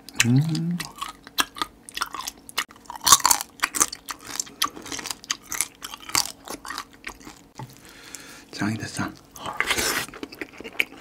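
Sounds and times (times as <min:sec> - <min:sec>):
person chewing crunchy crab: 0:00.0 - 0:08.3, 0:09.2 - 0:11.0.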